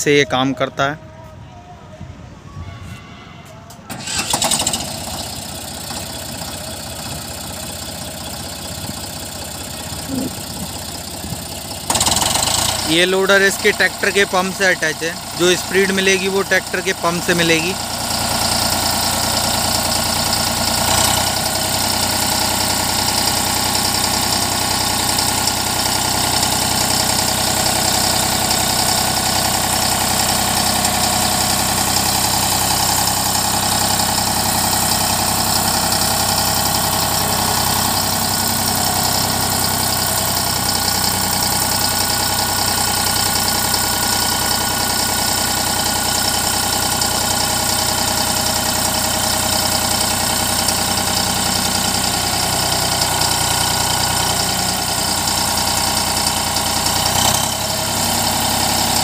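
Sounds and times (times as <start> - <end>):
tractor diesel engine running: 3.8 - 59.0.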